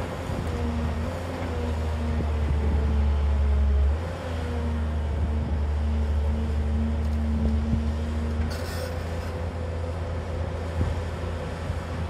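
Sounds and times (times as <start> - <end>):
excavator diesel engine under load: 0.0 - 12.0.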